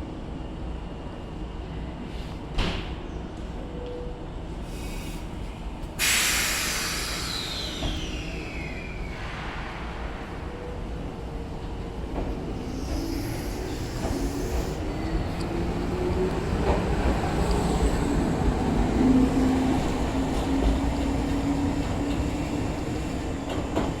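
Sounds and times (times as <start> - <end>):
electric train hum and rumble: 0.0 - 24.0.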